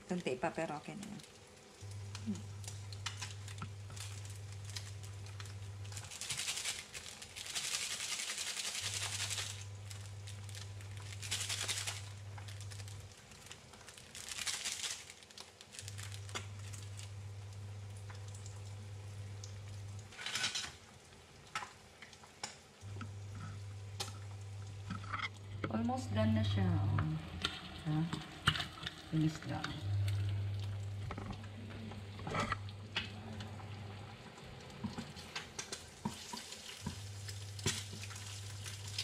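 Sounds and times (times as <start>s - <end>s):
electric hob humming: 0.0s - 7.4s, 8.8s - 14.2s, 15.1s - 39.0s
eggs sizzling in a pan: 0.0s - 39.0s.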